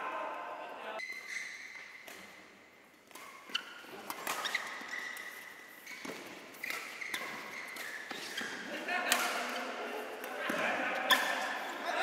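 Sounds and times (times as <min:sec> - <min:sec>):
rackets hitting shuttlecock: 0:01.7 - 0:11.7.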